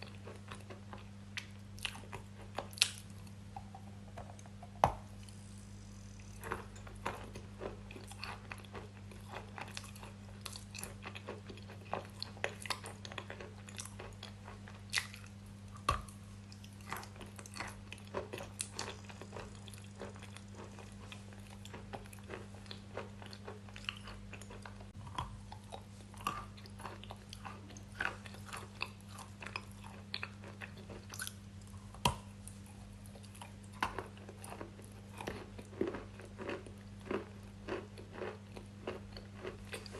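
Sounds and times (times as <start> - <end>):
low electrical hum: 0.0 - 39.9
crunchy chewing and biting: 6.0 - 39.9.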